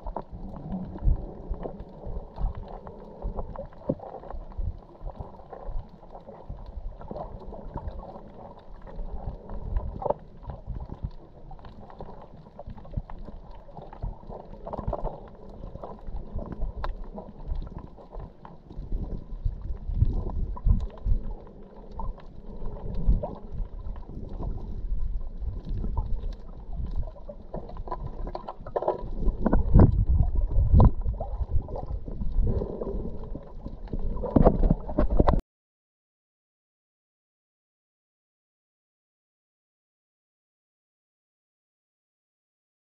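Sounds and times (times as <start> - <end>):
muffled underwater sloshing: 0.0 - 35.4.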